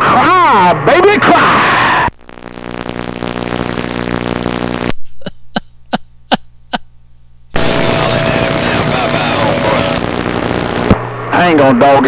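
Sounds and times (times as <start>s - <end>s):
loud rush of static: 0.0s - 6.8s, 7.5s - 12.0s
steady whine: 0.0s - 12.0s
radio buzzing tone: 1.4s - 12.0s.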